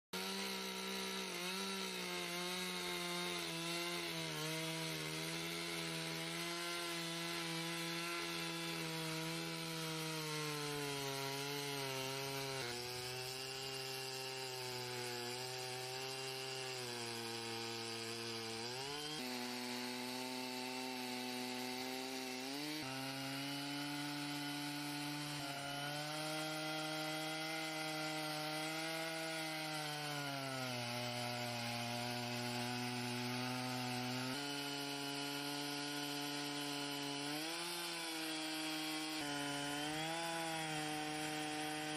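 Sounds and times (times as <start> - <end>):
chainsaw cutting a log: 0.1 - 41.9.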